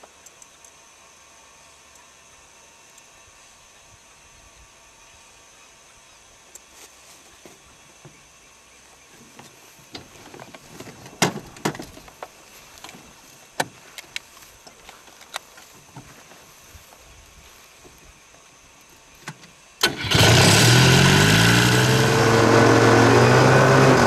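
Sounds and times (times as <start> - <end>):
faint steady hiss: 0.0 - 20.1.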